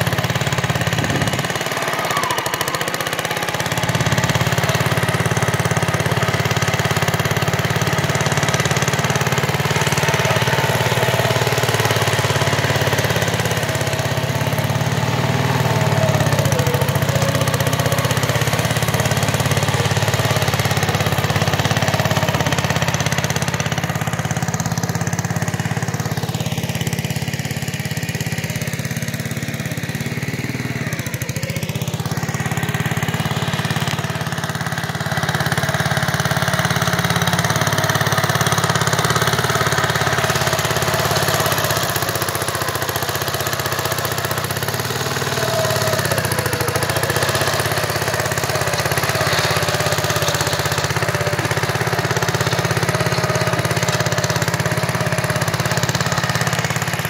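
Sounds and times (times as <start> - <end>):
road roller engine chugging: 0.0 - 57.0.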